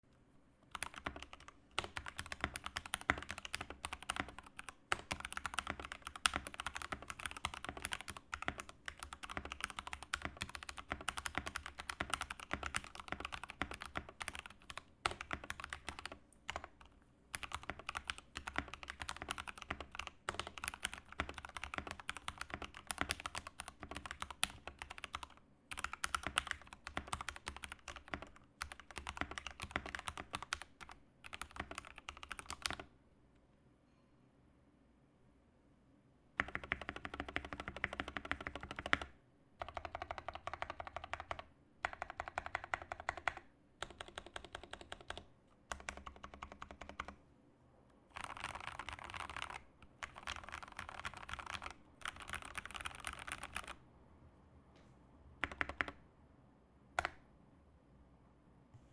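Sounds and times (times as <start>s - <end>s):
mechanical keyboard typing: 0.7s - 32.9s, 36.4s - 47.2s, 48.1s - 53.8s, 55.4s - 56.0s.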